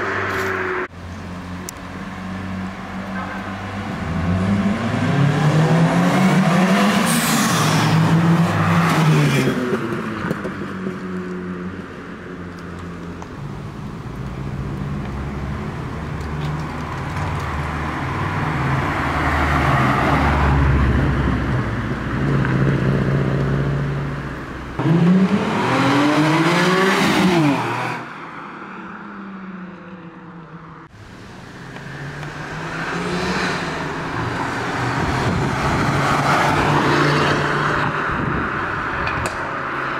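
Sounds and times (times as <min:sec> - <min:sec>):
cars revving past: 0:00.0 - 0:11.9, 0:16.5 - 0:29.8, 0:31.4 - 0:39.9.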